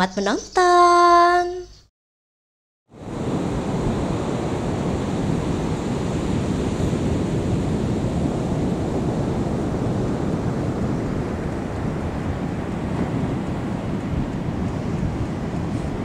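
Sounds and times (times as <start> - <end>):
wind buffeting microphone: 3.0 - 16.0.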